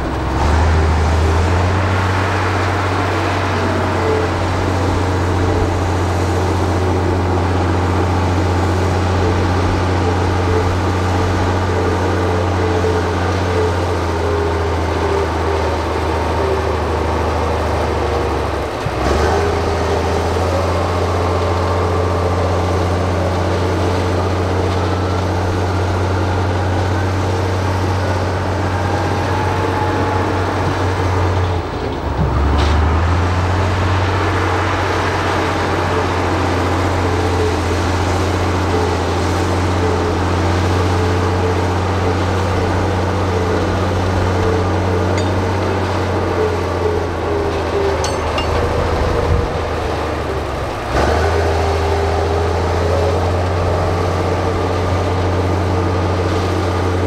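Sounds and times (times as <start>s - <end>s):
diesel engine humming: 0.0s - 57.0s.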